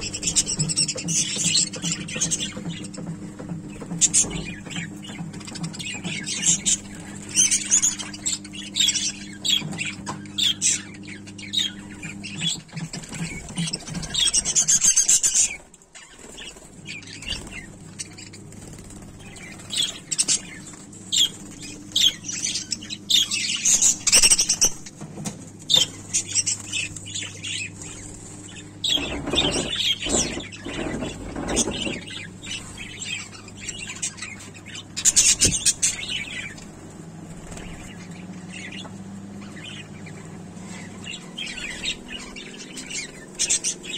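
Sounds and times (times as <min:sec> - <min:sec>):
budgerigars chattering: 0:00.0 - 0:24.9, 0:25.7 - 0:43.9
low steady hum: 0:00.0 - 0:43.9.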